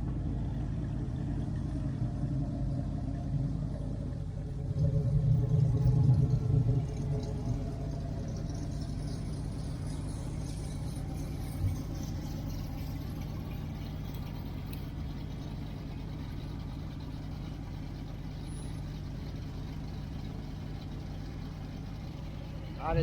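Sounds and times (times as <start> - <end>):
vehicle engine droning: 0.0 - 23.0.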